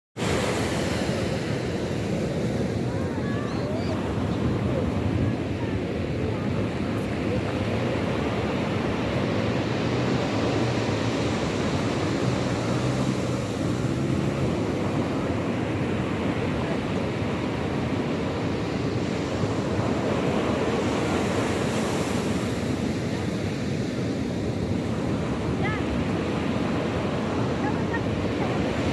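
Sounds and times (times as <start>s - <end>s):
sea surf washing ashore: 0.2s - 28.9s.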